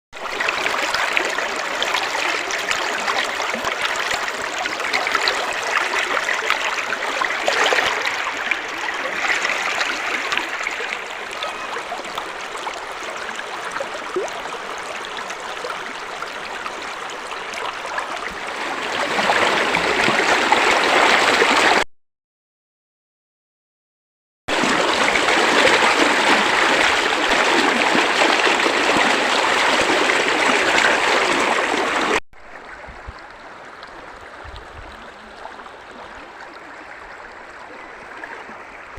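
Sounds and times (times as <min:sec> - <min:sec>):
stream water running: 0:00.2 - 0:21.8, 0:24.5 - 0:38.9.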